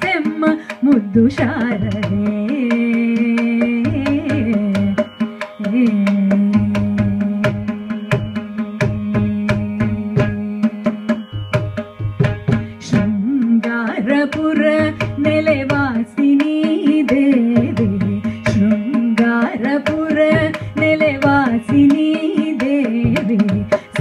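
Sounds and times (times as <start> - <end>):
woman singing: 0.0 - 11.6, 12.5 - 24.0.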